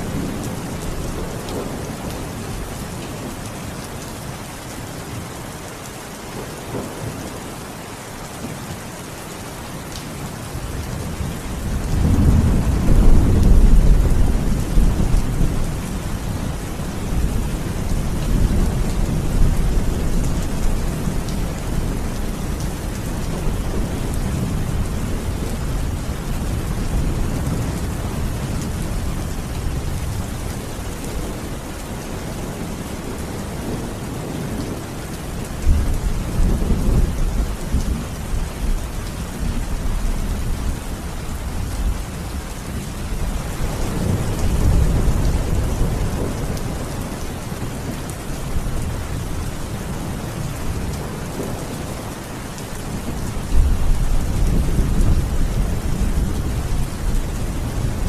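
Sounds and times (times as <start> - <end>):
heavy rain: 0.0 - 58.0
low rolling thunder: 10.5 - 52.2, 52.8 - 58.0.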